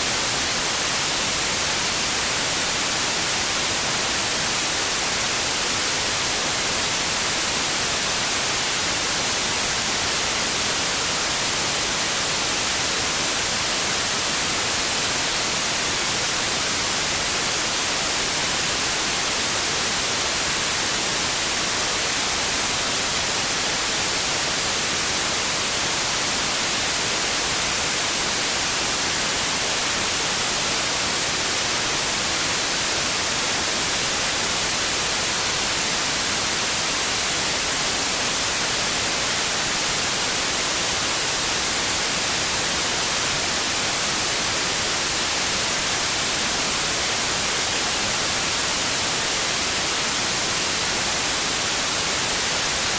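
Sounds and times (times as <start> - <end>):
white noise hiss: 0.0 - 52.9.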